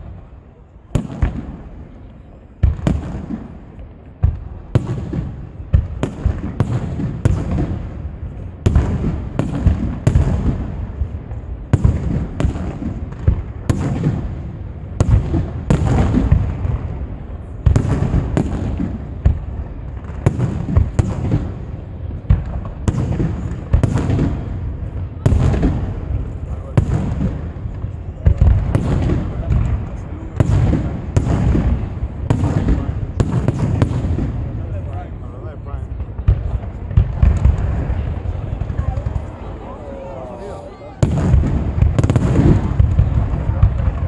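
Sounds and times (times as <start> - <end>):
firework bursts banging: 0.9 - 35.2, 40.9 - 44.0.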